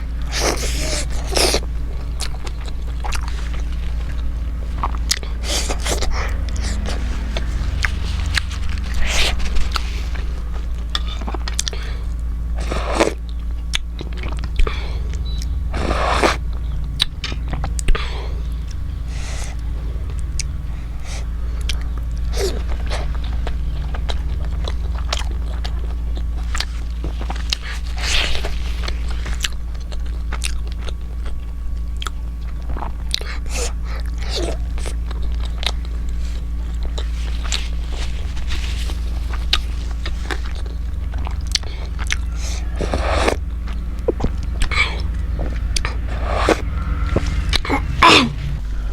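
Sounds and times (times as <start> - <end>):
person chewing: 0.0 - 48.9
steady low hum: 0.0 - 48.9.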